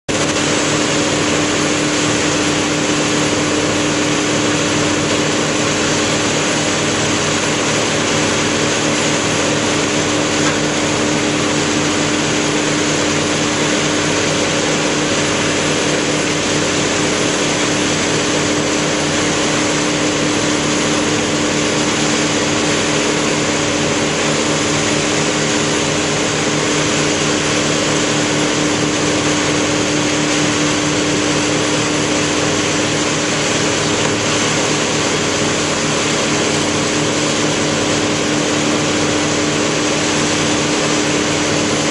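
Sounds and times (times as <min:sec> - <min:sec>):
heavy equipment engine droning: 0:00.1 - 0:41.9.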